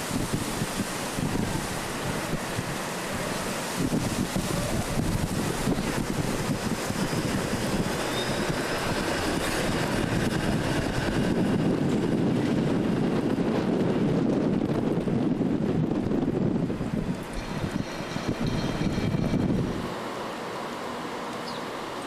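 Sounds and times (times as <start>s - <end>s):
wind noise on microphone: 0.0s - 19.9s
street traffic rumble: 0.0s - 22.0s.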